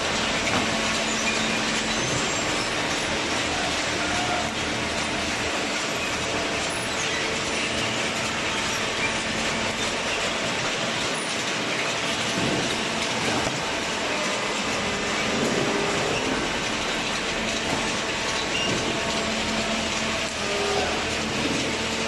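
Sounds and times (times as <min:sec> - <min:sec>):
machinery running: 0:00.0 - 0:22.0.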